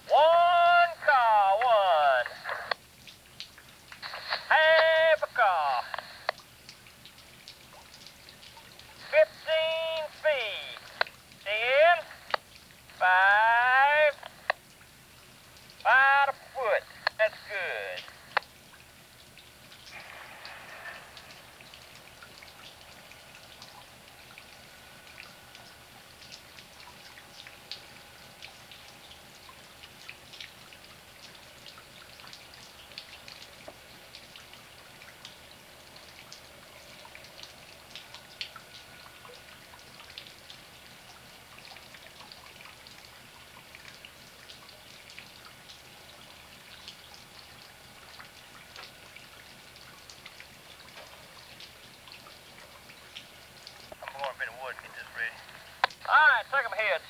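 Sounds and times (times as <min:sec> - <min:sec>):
light rain dripping: 0:00.0 - 0:57.0.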